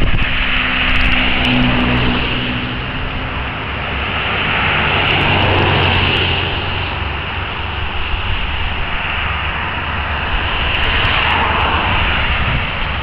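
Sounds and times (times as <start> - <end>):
engine and tyre noise: 0.0 - 13.0
truck driving past: 0.0 - 13.0.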